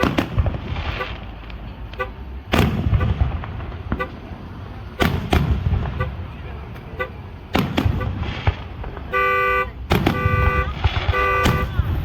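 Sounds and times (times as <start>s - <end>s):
fireworks booming: 0.0s - 12.0s
rolling rumble and crackle: 0.0s - 12.0s.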